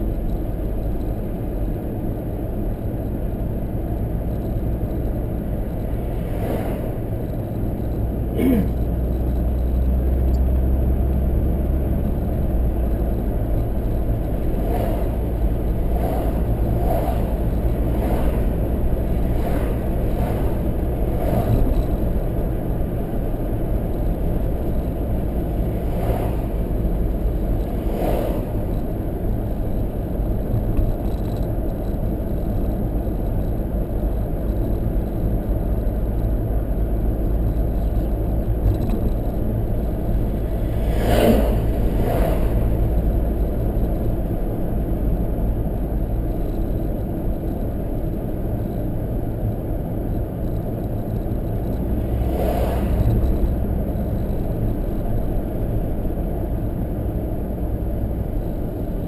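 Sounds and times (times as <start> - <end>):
car driving rumble from inside: 0.0 - 59.0.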